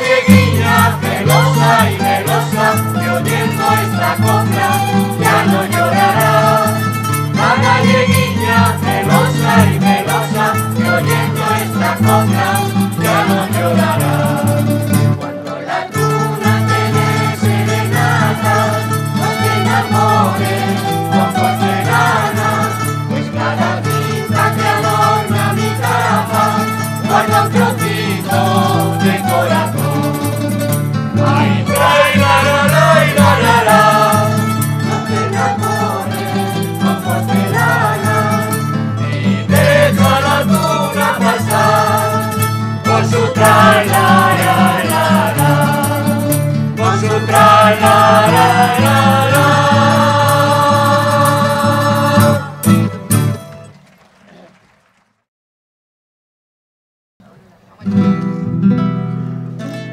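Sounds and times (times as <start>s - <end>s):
mixed choir singing: 0.0s - 52.9s
violin: 0.0s - 53.7s
plucked string ensemble: 0.0s - 53.9s.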